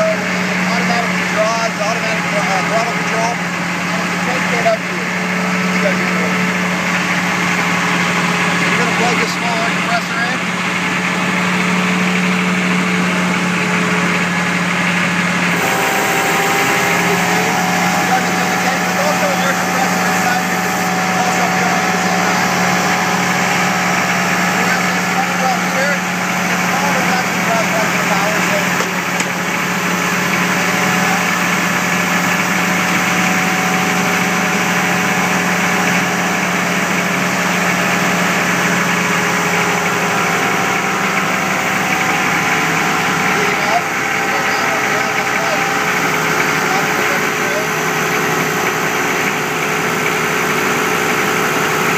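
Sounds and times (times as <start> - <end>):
air compressor hum: 0.0 - 51.9
diesel engine running generator: 0.0 - 51.9.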